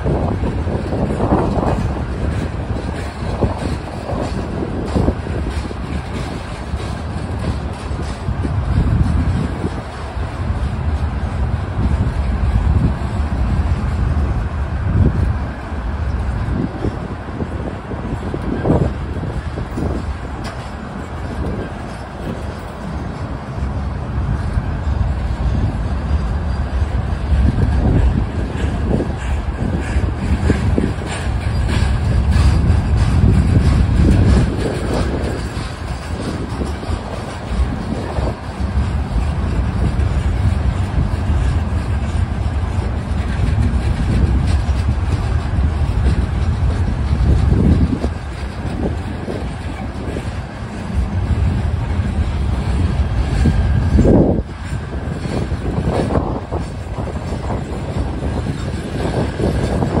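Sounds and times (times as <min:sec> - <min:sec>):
freight train wheels rumbling on rail: 0:00.0 - 1:00.0.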